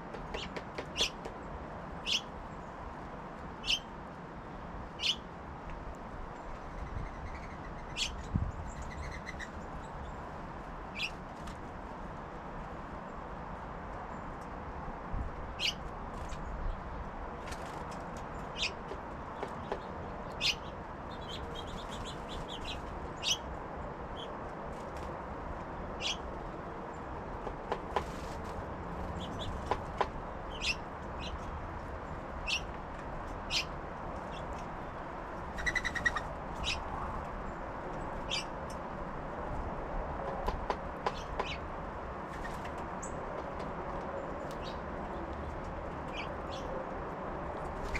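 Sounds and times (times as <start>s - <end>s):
songbirds chipping: 0.0s - 5.4s, 6.2s - 11.7s, 15.4s - 47.9s.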